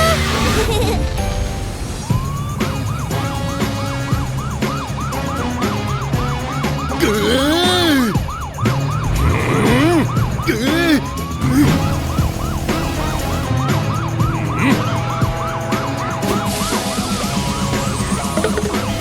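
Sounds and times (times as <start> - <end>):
background music: 0.0 - 19.0
police siren yelping: 0.0 - 19.0.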